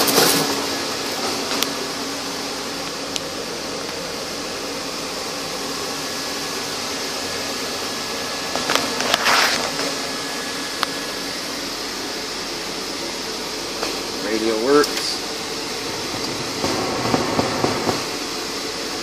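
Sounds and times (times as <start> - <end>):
whooshing hum inside car cab: 0.0 - 19.0.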